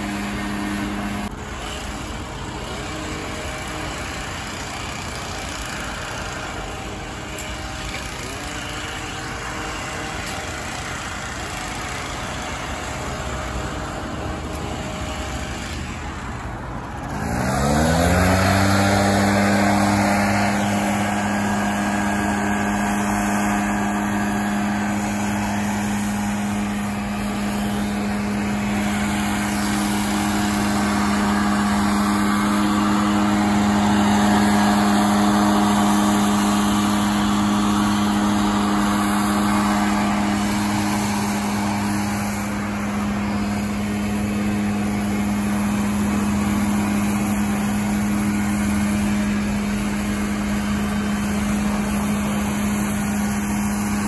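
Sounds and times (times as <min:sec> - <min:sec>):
engine revving at high speed: 0:00.0 - 0:54.0.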